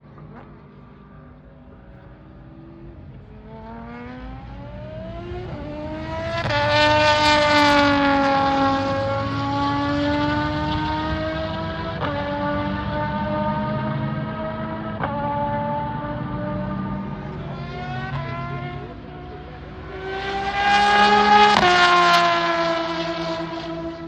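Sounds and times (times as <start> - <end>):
race car engine passing: 0.9 - 24.0.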